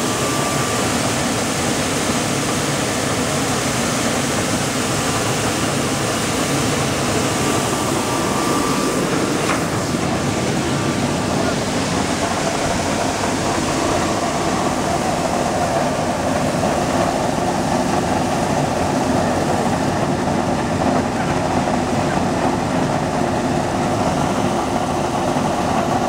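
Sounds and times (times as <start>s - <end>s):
flour mill machine drone: 0.0s - 26.0s.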